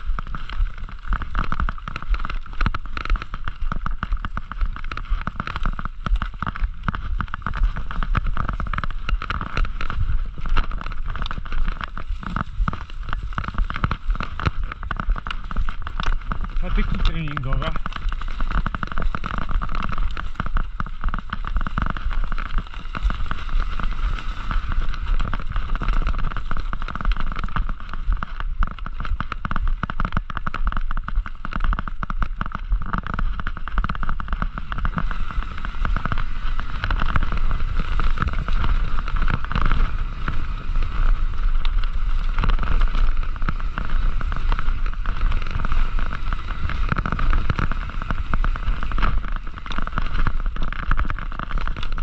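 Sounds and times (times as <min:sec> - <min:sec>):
bike tyres crackling on dirt: 0:00.0 - 0:52.0.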